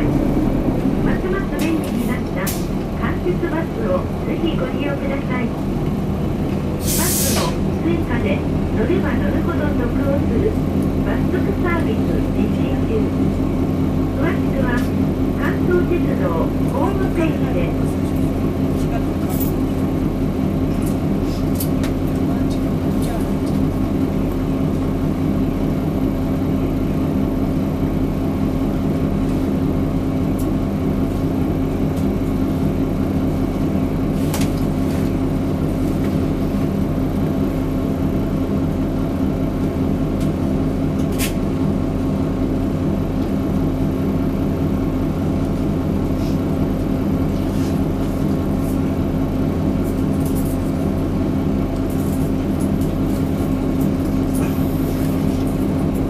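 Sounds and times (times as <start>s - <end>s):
bus diesel engine idling: 0.0s - 56.0s.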